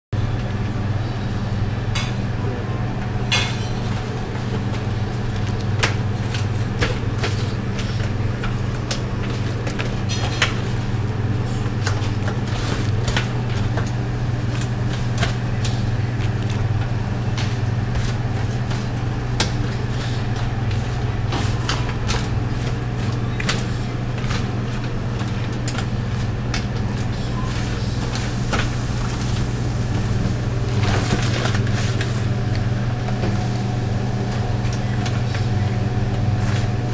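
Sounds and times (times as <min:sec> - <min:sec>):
low machine hum: 0:00.2 - 0:36.9.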